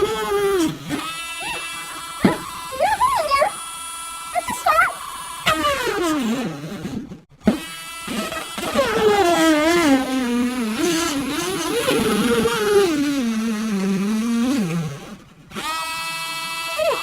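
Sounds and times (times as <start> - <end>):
rotary tool cutting plastic: 0.0 - 17.0.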